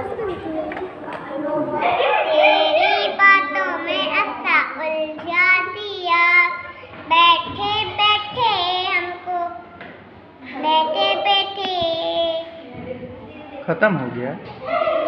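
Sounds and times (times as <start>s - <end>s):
child singing: 0.0s - 9.8s, 10.4s - 13.6s.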